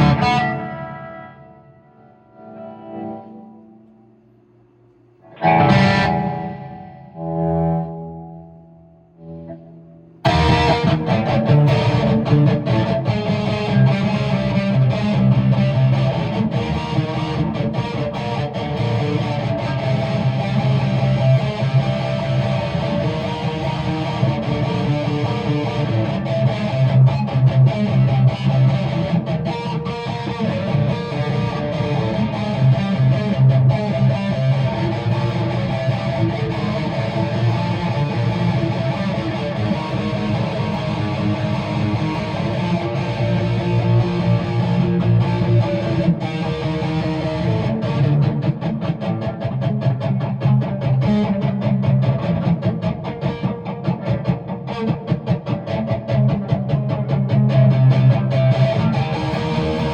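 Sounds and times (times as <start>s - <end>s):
guitar strumming: 0.0s - 4.1s, 5.2s - 59.9s.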